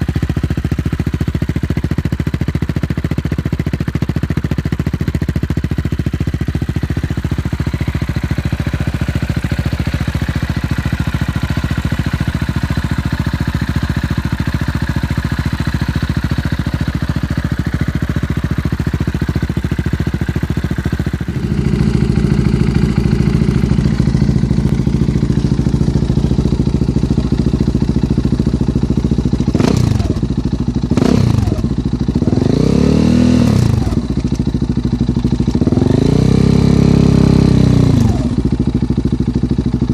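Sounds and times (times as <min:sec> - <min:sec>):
motorcycle engine idling: 0:00.0 - 0:39.9
motorcycle throttle blips: 0:03.8 - 0:36.1.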